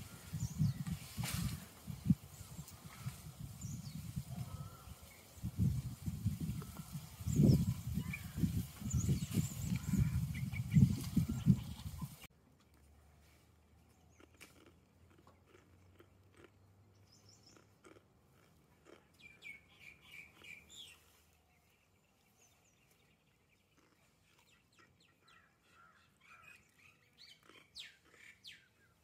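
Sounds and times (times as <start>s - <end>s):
faint birds chirping: 0.0s - 12.3s, 13.0s - 18.0s, 18.8s - 29.0s.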